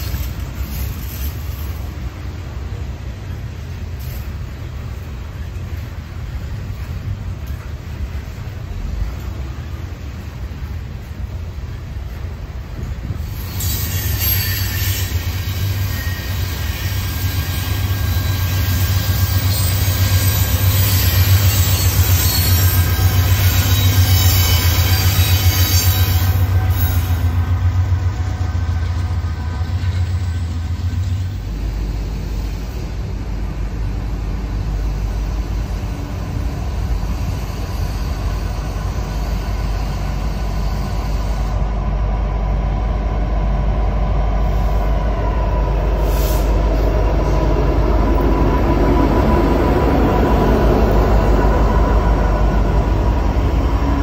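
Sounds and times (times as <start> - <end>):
diesel locomotives approaching: 0.0 - 54.0
freight train passing with low hum: 0.0 - 54.0.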